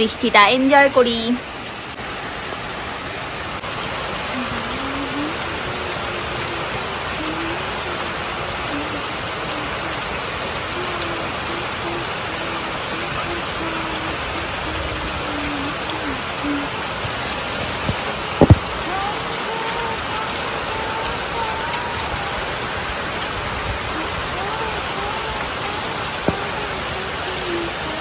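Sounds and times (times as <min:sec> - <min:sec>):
heavy rain hissing: 0:00.0 - 0:28.0.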